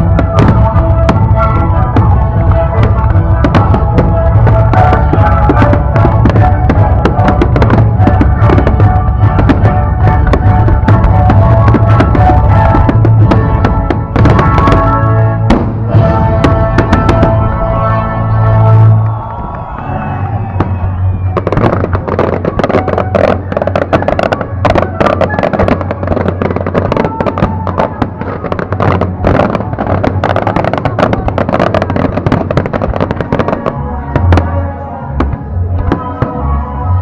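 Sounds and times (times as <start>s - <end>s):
fireworks bursting and crackling: 0.0s - 34.6s
loud music: 0.0s - 37.0s.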